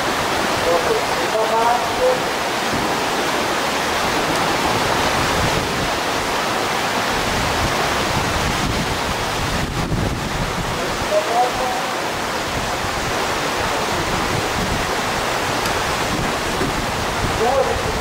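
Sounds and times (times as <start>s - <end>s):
whitewater rapids rushing: 0.0s - 18.0s.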